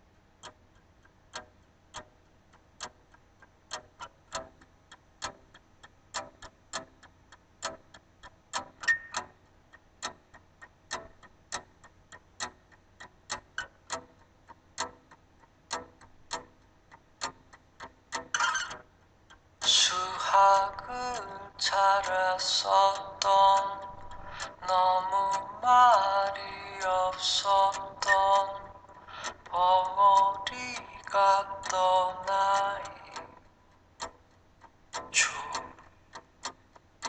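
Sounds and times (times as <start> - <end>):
clock-like ticks: 0.0 - 37.0.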